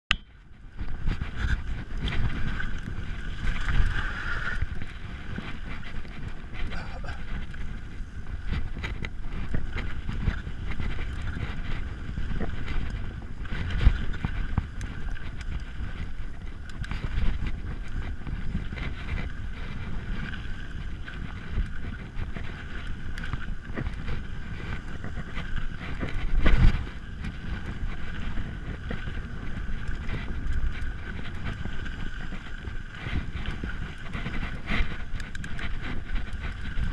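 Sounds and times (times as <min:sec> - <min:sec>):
wind buffeting microphone: 0:00.3 - 0:36.9
bike tyres rumbling on dirt: 0:00.4 - 0:36.9.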